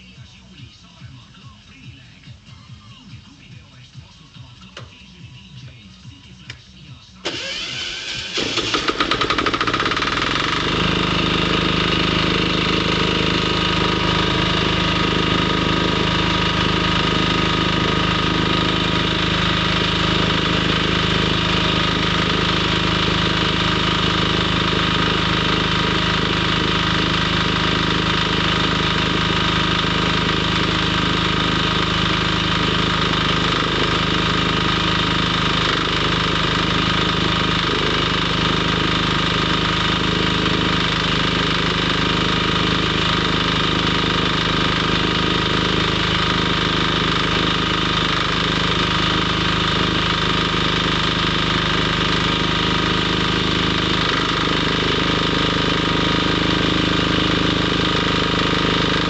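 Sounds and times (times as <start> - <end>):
motor-driven machine humming: 7.2 - 59.0.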